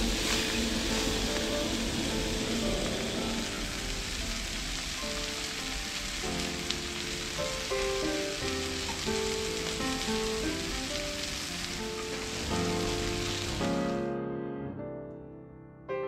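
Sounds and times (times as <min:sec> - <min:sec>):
peas sizzling in oil: 0:00.0 - 0:14.0
background music: 0:00.0 - 0:15.9.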